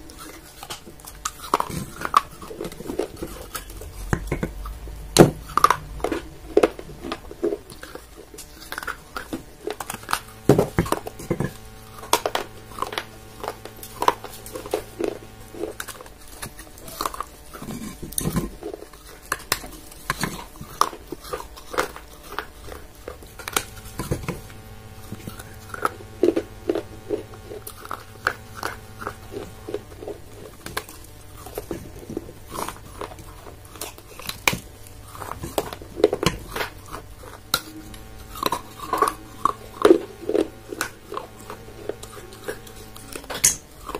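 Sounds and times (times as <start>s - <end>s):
crunching and chewing clay: 0.0s - 43.9s.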